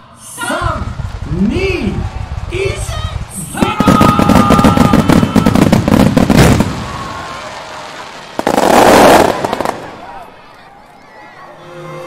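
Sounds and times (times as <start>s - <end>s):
loud dense crackling fireworks: 0.8s - 10.6s.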